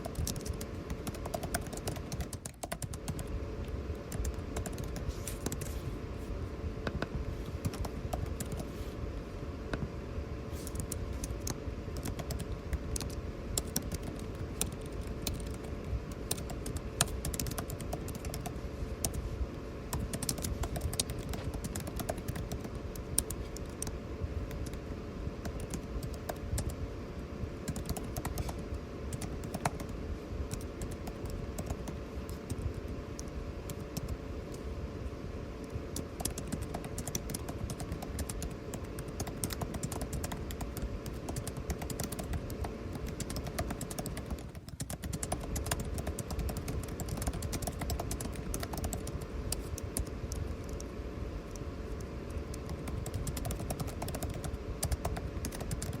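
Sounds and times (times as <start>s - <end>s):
air conditioning hum: 0.0s - 56.0s
faint constant tone: 0.0s - 56.0s.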